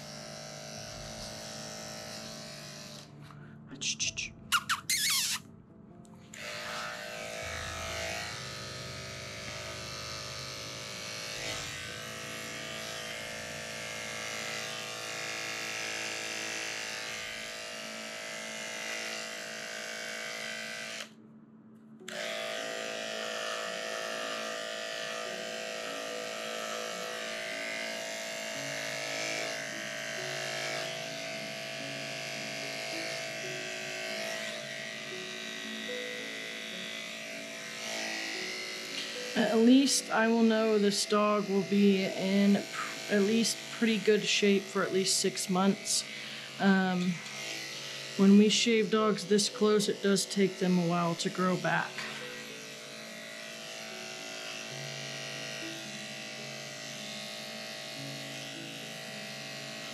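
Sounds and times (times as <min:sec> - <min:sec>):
electric clippers humming: 0:00.0 - 0:05.4, 0:06.3 - 0:21.2, 0:22.0 - 0:59.9.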